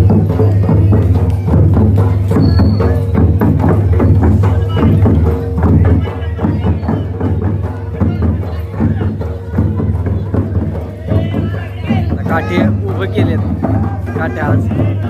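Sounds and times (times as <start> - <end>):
fast rhythmic drum strokes: 0.0 - 15.0.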